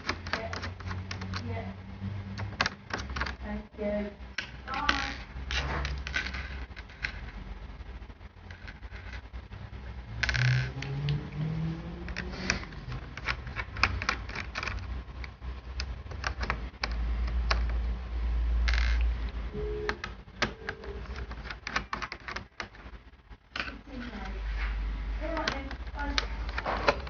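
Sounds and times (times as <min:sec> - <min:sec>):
low rumble of handling: 0:00.0 - 0:27.0.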